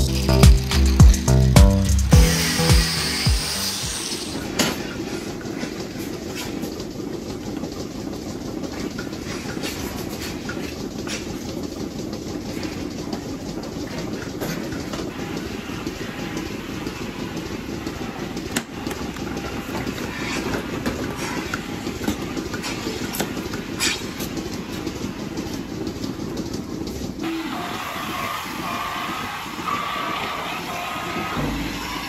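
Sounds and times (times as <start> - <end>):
milking machine rumble: 0.0 - 32.0.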